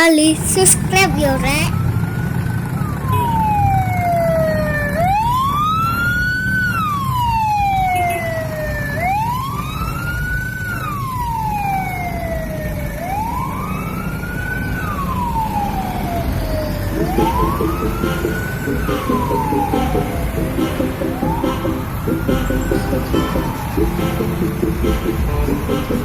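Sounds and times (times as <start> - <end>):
wailing siren: 1.8 - 25.2.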